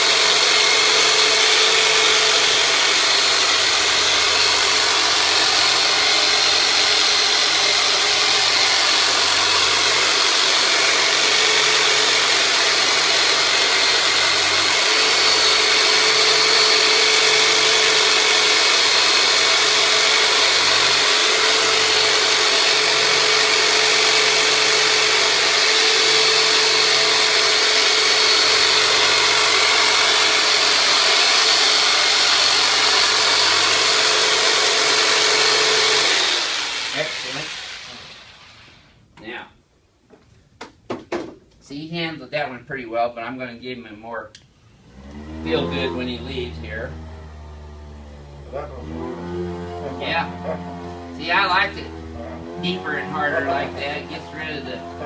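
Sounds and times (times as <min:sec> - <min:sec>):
electric massager motor hum: 0:00.0 - 0:38.8, 0:44.8 - 0:55.0.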